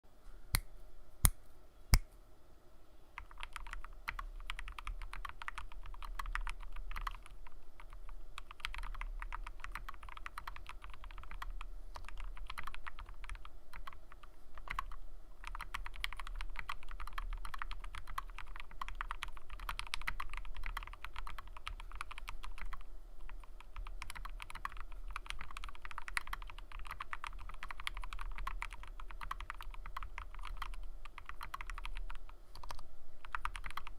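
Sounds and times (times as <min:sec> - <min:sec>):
mechanical keyboard typing: 0:03.2 - 0:33.9.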